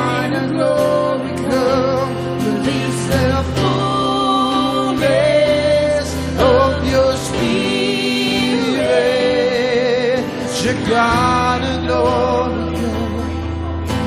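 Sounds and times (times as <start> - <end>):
person singing with vibrato: 0.0 - 13.7
slow worship music accompaniment: 0.0 - 14.0.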